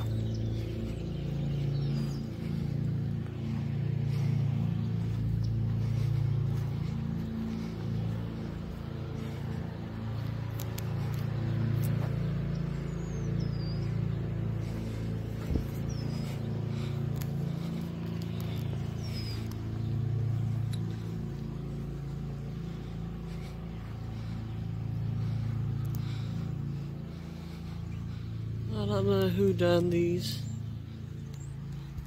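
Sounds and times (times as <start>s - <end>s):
car engine humming: 0.0s - 32.0s.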